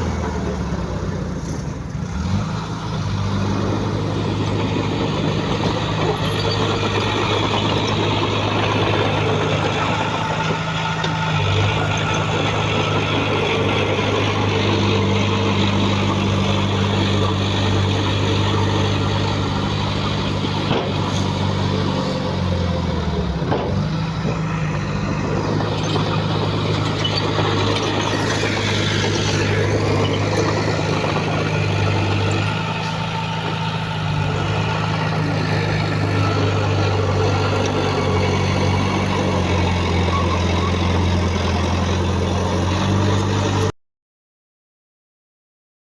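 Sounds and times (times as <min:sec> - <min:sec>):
heavy diesel engine running: 0:00.0 - 0:43.7.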